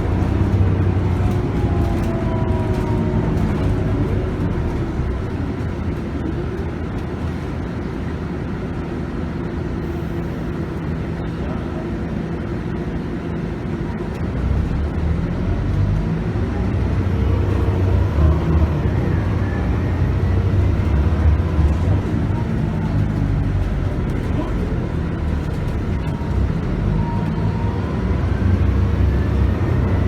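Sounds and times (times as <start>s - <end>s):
bus engine drone: 0.0s - 30.0s
road noise: 0.0s - 30.0s.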